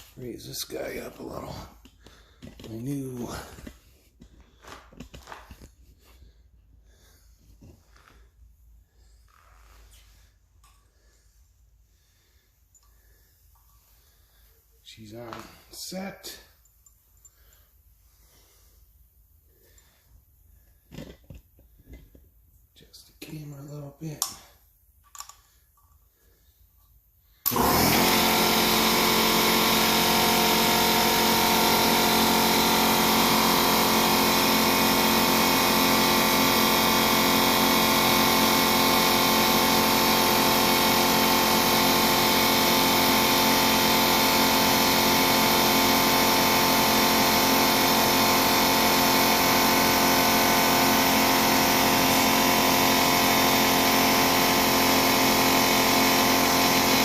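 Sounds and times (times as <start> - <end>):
air compressor running: 0.0 - 22.4, 27.4 - 57.0.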